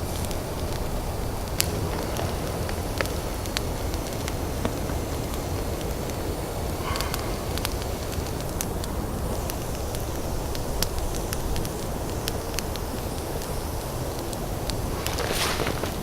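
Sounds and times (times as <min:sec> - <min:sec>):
campfire crackling and popping: 0:00.0 - 0:16.0
low rumble of wind: 0:00.0 - 0:16.0.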